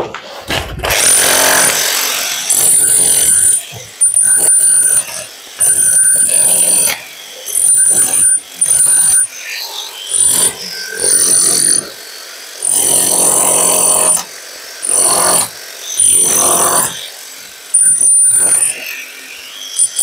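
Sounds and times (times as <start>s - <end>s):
rotary hammer chiselling concrete: 0.7s - 20.0s.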